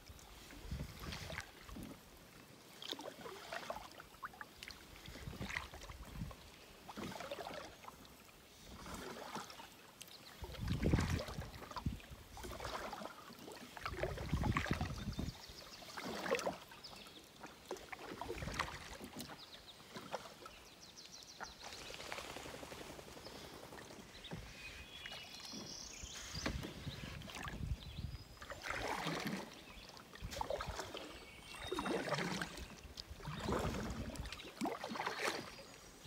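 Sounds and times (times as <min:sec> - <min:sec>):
paddle strokes in calm water: 0:00.0 - 0:36.0.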